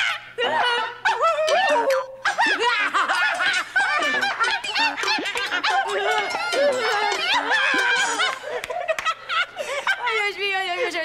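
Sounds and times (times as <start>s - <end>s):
people laughing loudly: 0.0s - 11.0s.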